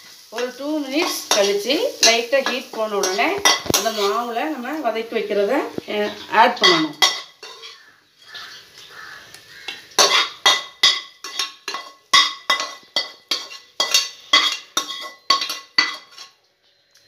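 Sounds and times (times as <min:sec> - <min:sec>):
spatula scraping pan: 0:00.4 - 0:04.5, 0:06.0 - 0:08.7, 0:09.5 - 0:16.4.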